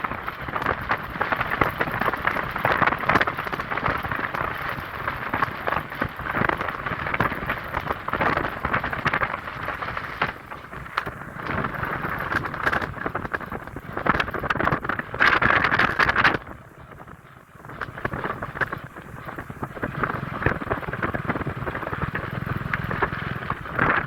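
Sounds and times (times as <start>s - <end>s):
rain spattering: 0.0s - 24.0s
wind rushing over microphone: 0.0s - 24.0s.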